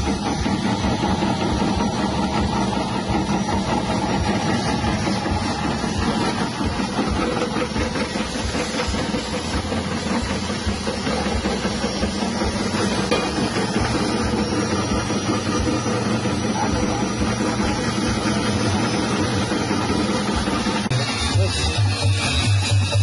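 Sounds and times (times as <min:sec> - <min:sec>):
chip slicing machine whirring: 0:00.0 - 0:23.0.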